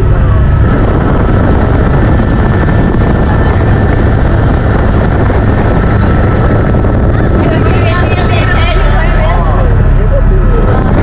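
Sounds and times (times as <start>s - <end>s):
helicopter rotor and engine noise: 0.0s - 11.0s.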